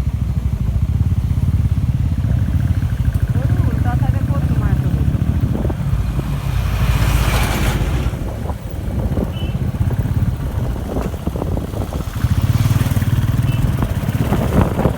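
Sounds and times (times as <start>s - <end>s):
motorcycle engine humming: 0.0s - 14.9s
wind rushing over microphone: 1.4s - 14.9s.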